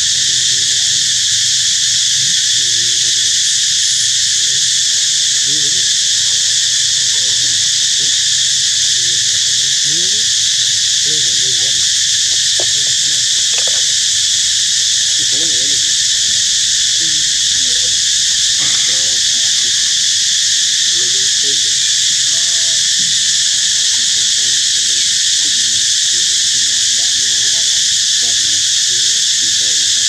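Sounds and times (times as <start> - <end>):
faint distant voices: 0.0 - 29.0
insect chorus drone: 0.0 - 30.0.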